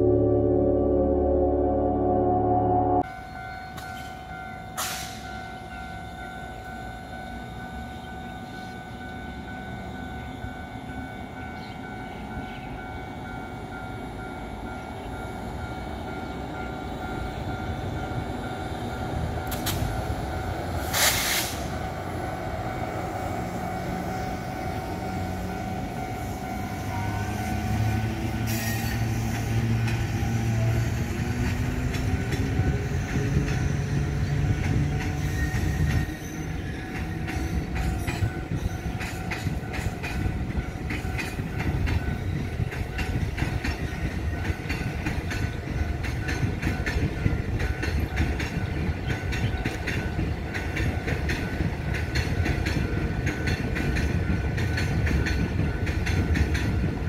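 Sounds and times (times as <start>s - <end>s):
train wheels rumbling on rail: 3.0s - 57.0s.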